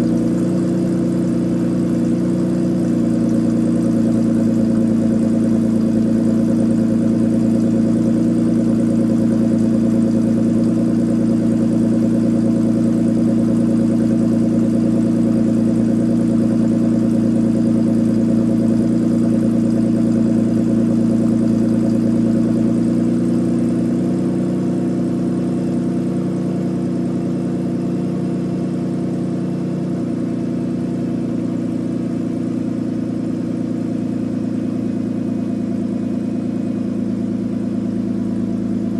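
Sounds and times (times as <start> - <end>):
car exhaust idling: 0.0 - 38.9.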